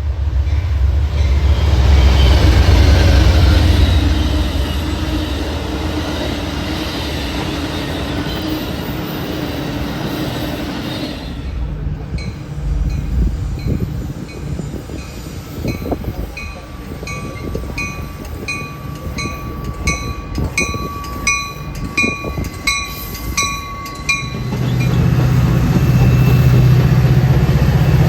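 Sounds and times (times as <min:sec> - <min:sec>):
diesel locomotive engine rumble: 0:00.0 - 0:28.0
train bell dinging: 0:00.4 - 0:28.0.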